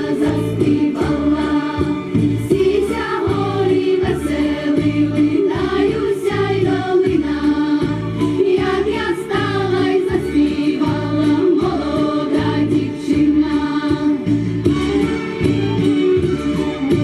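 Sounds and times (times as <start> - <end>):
girls' choir singing folk song: 0.0 - 14.8.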